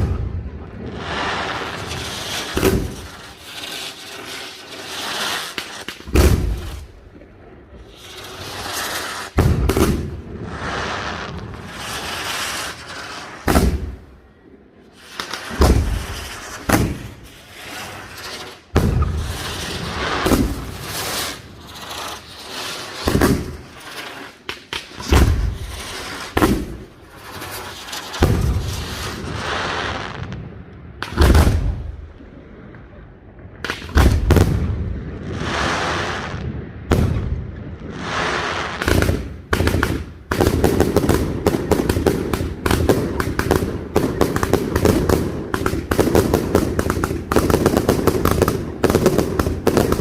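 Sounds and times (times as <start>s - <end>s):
firework shells booming: 0.0s - 10.6s, 13.4s - 14.1s, 15.2s - 17.3s, 18.7s - 22.3s, 23.0s - 23.8s, 24.4s - 32.1s, 33.6s - 50.0s
fireworks hissing and crackling: 0.0s - 14.2s, 14.9s - 33.0s, 33.6s - 50.0s.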